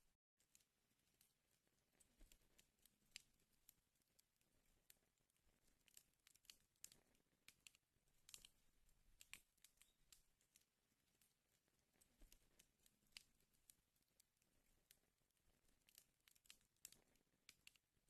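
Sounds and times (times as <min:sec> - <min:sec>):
wood fire crackling: 0:00.4 - 0:18.0.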